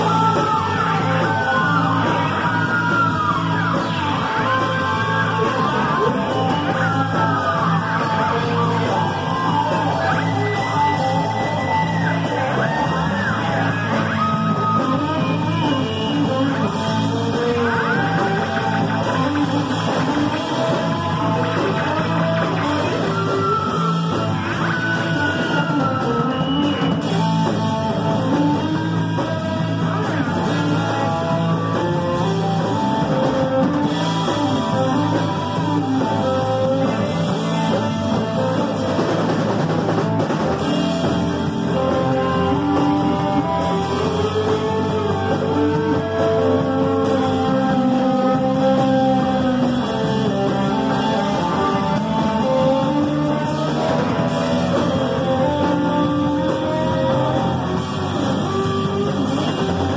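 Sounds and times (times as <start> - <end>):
electric guitar: 0.0 - 59.9
live rock band: 0.0 - 59.9.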